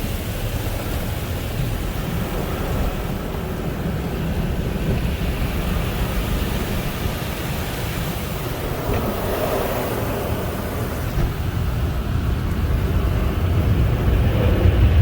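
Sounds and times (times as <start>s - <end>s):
car wash equipment rushing: 0.0s - 15.0s.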